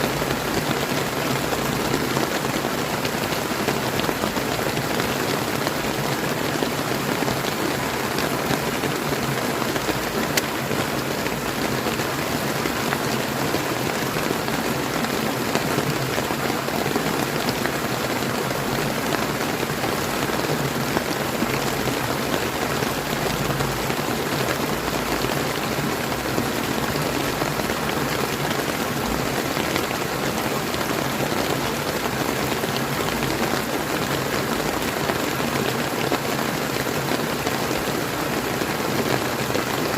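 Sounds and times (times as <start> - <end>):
rain pattering: 0.0 - 39.9
river flowing: 0.0 - 39.9.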